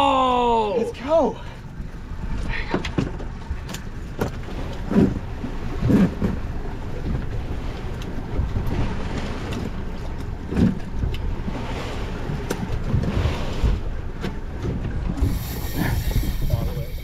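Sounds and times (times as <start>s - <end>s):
sea wash: 0.0s - 17.0s
wind buffeting microphone: 1.7s - 17.0s.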